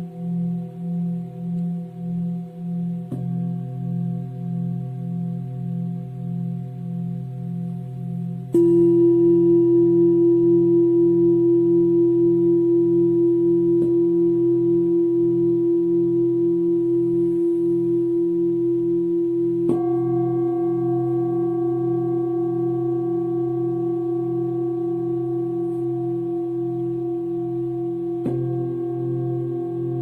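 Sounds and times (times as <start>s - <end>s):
singing bowl ringing: 0.0s - 30.0s.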